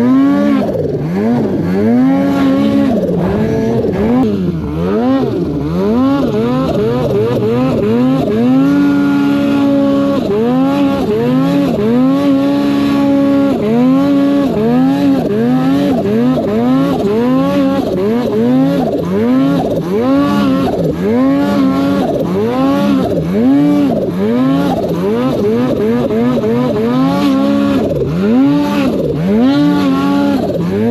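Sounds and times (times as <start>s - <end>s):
snowmobile engine revving: 0.0s - 30.9s.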